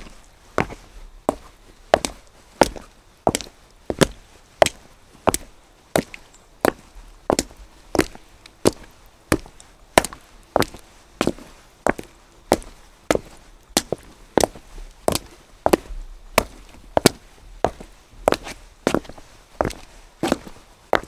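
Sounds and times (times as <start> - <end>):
footsteps on wet cobblestones: 0.0 - 21.0.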